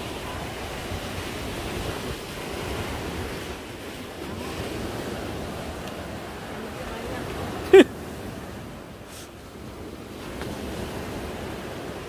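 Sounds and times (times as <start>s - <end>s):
sea surf washing ashore: 0.0s - 12.0s.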